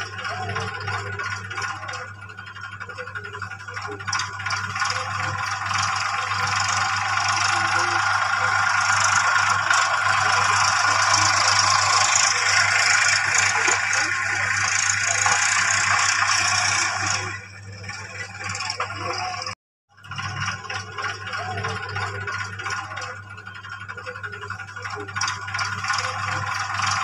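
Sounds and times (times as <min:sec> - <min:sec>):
toy wheels rattling on tile floor: 0:00.0 - 0:19.6, 0:23.8 - 0:27.0.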